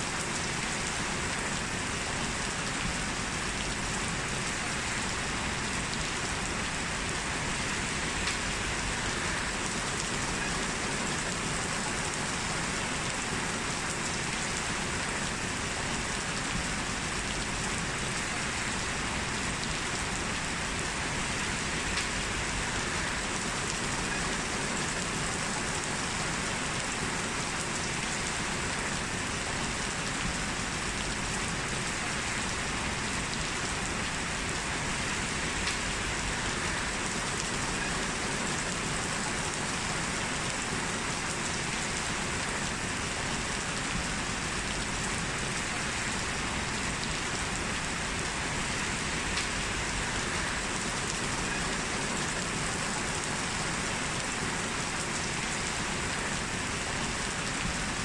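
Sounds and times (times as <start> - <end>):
heavy rain on a street: 0.0 - 58.0.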